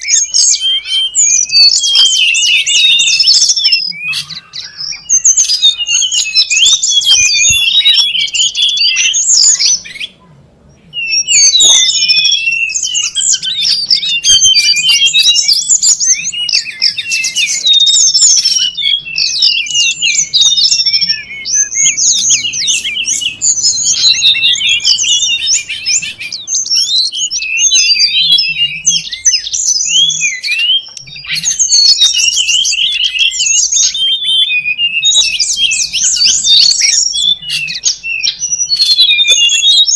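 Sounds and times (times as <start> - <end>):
bird high chirps and twitters: 0.0 - 39.9.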